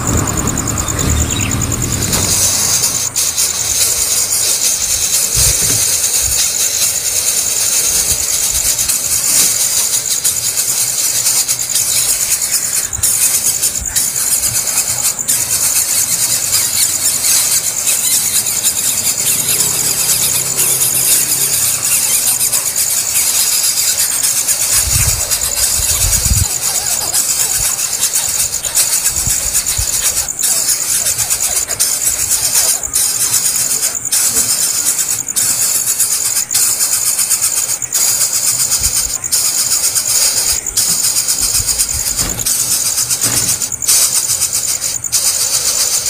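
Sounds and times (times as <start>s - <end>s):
chicks begging calls: 0.0s - 46.0s.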